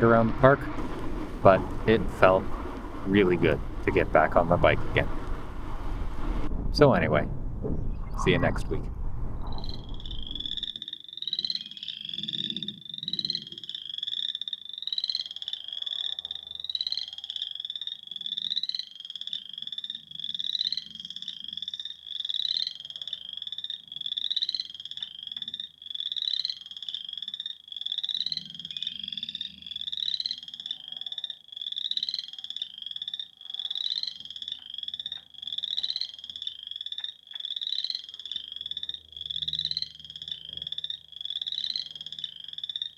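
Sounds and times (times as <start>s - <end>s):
fainter lower frog calls: 0.0s - 42.9s
frog high rising call: 0.0s - 42.9s.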